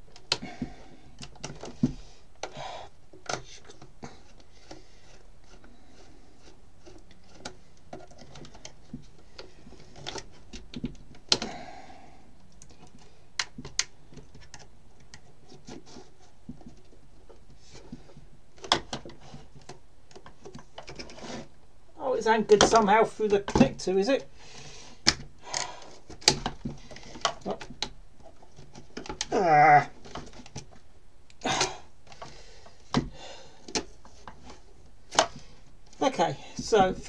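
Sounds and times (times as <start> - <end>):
hard plastic clicks and scrapes: 0.1 - 11.6, 12.4 - 21.6, 25.0 - 29.3, 29.9 - 37.0.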